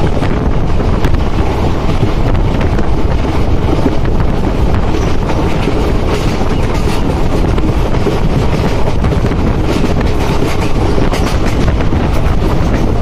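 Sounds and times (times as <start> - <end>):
train rumbling: 0.0 - 13.0
wind buffeting microphone: 0.0 - 13.0.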